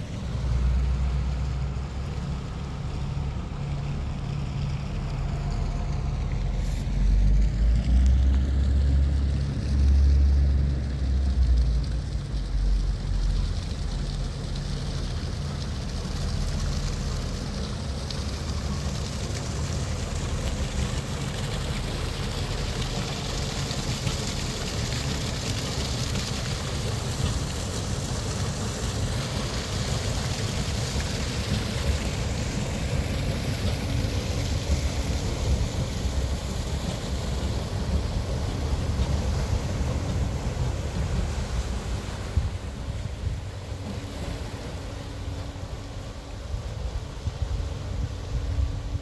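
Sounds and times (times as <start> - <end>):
ship engine droning: 0.0 - 49.0
water splashing and churning: 0.0 - 49.0.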